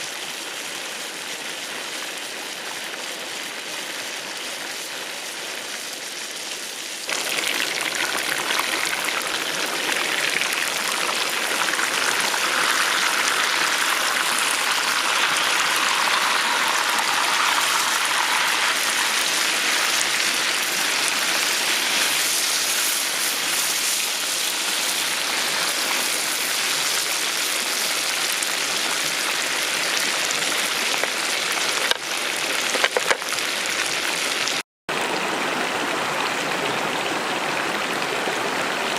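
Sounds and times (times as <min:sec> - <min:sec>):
hot oil sizzling: 0:00.0 - 0:34.6.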